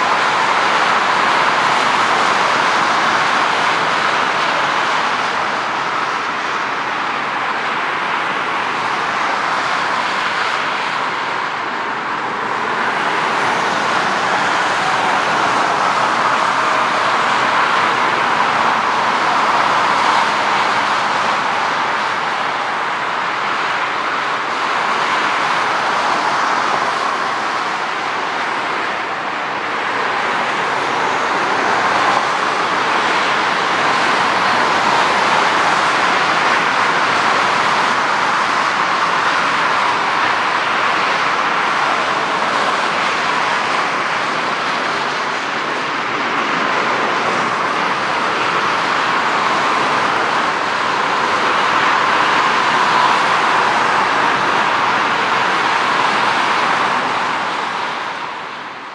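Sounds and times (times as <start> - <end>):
jet engines roaring: 0.0 - 58.9.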